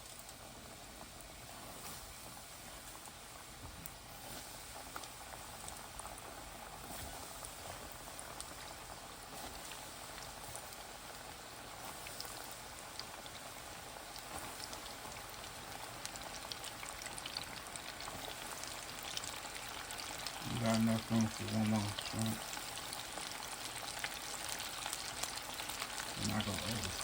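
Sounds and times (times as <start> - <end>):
shrimp sizzling in hot oil: 0.0 - 27.0.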